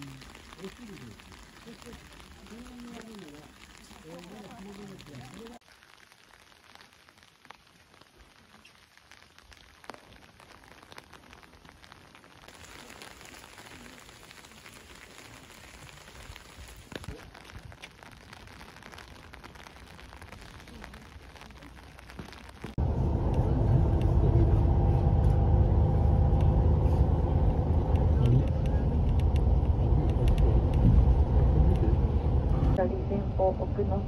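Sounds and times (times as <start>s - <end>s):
raindrops ticking: 0.0s - 24.1s, 27.4s - 31.9s
light rain hissing: 0.0s - 32.8s.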